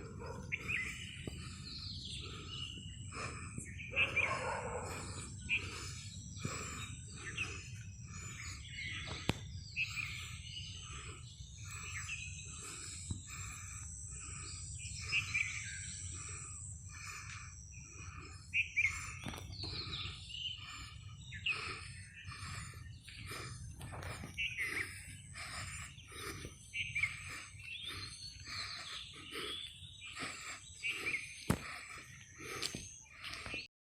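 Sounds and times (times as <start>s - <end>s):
birds chirping: 0.0s - 33.7s.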